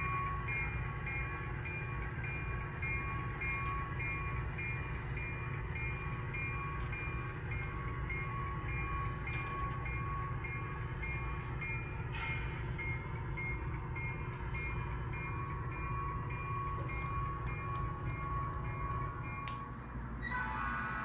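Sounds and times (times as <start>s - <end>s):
faint pulsing high tones: 0.0s - 21.0s.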